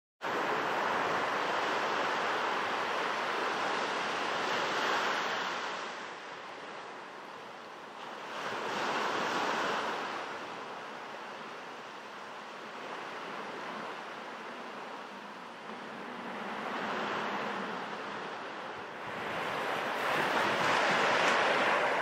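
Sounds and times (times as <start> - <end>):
small waves breaking on beach: 0.2 - 22.0.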